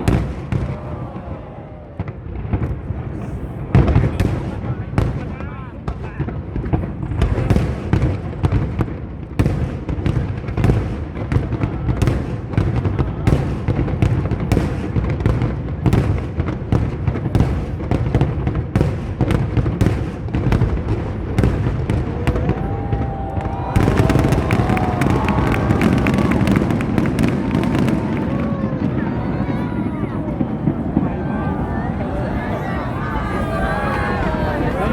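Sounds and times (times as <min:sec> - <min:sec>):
fireworks bangs and booms: 0:00.0 - 0:34.9.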